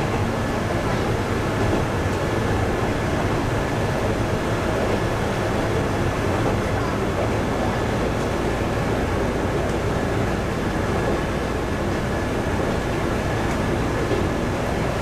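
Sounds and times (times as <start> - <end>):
diesel engine droning: 0.0 - 15.0
wheel-on-rail noise: 0.0 - 15.0.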